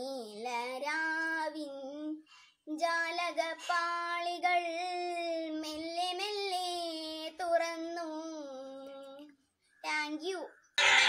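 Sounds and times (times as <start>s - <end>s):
girl singing unaccompanied: 0.0s - 10.5s.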